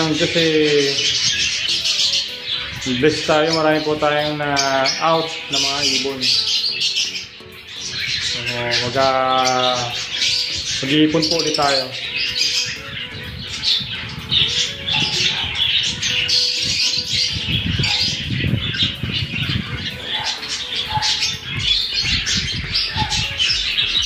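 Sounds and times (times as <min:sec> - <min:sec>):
parakeets chattering and squawking: 0:00.0 - 0:24.0.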